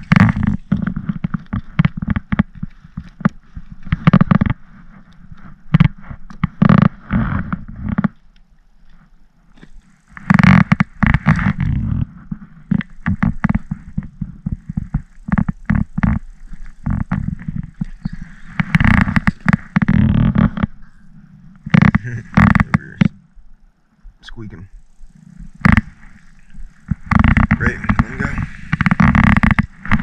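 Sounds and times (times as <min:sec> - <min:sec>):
clothing brushing microphone: 0:00.0 - 0:08.0, 0:10.0 - 0:23.2, 0:25.2 - 0:30.0
rustling and knocking of gear: 0:00.0 - 0:23.2, 0:24.8 - 0:30.0.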